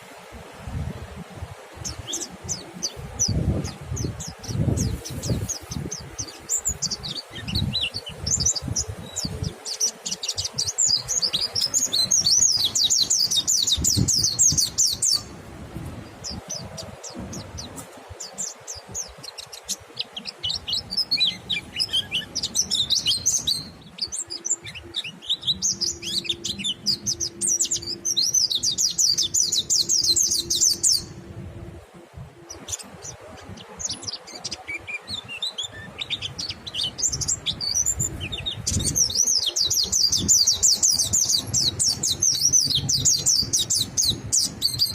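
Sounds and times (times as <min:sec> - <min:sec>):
birds twittering song: 0:00.0 - 0:44.9.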